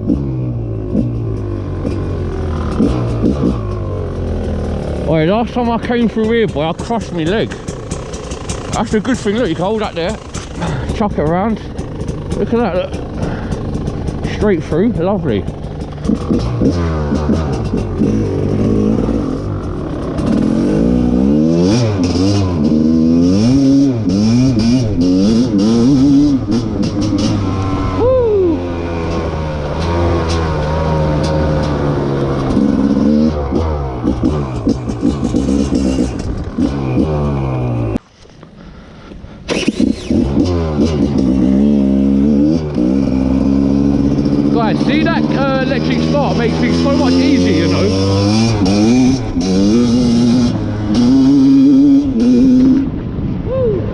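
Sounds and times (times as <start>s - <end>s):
two-stroke motorcycle engine revving: 0.0s - 38.0s, 39.5s - 53.4s.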